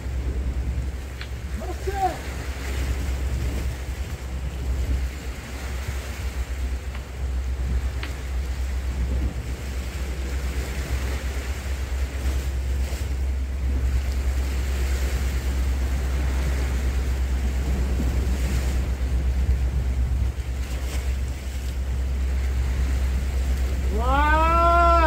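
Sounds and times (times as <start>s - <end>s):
sea swell against rocks: 0.0s - 25.0s
wind rumbling on microphone: 0.0s - 25.0s.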